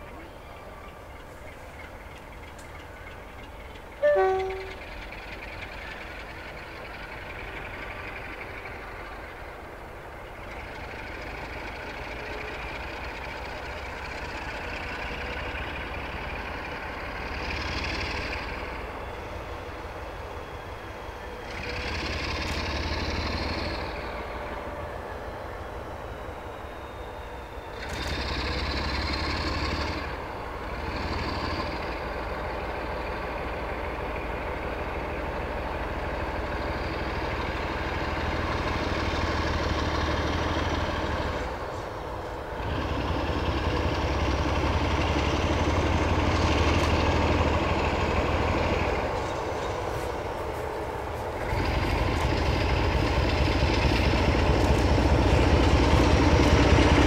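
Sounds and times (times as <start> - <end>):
diesel locomotive engine running: 0.0 - 57.0.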